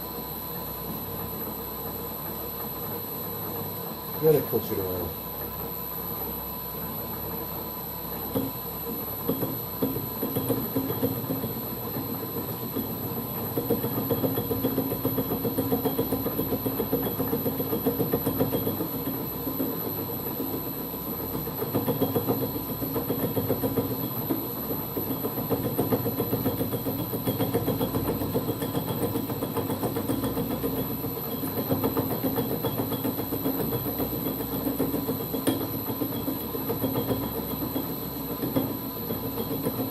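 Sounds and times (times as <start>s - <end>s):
lathe running with clatter: 0.0s - 39.9s.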